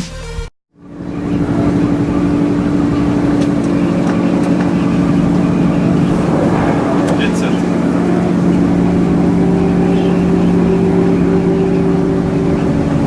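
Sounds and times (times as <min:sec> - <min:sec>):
diesel engine droning: 0:00.8 - 0:13.0.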